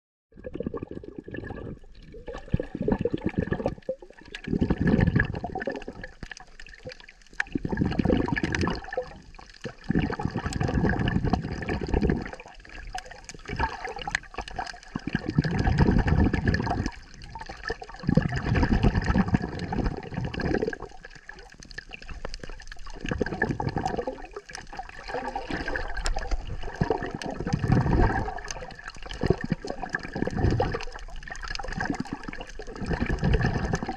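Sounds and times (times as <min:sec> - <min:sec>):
muffled underwater water sloshing: 0:00.4 - 0:33.9.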